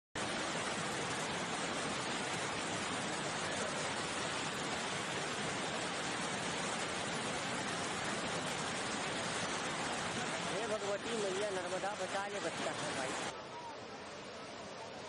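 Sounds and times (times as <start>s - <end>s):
river rushing: 0.2s - 15.0s.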